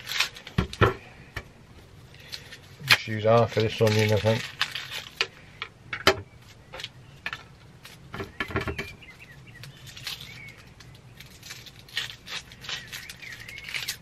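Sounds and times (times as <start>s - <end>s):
onion skin crackling: 0.0s - 14.0s.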